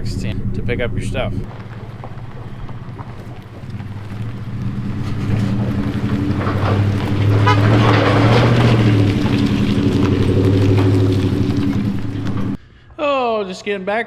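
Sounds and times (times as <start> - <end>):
vehicle engine humming: 0.0 - 12.6.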